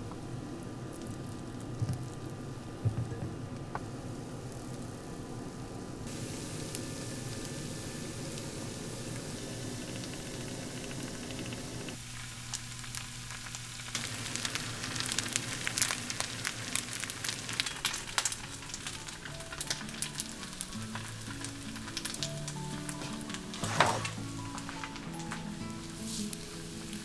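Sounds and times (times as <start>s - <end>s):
food sizzling in hot oil: 3.8s - 27.0s.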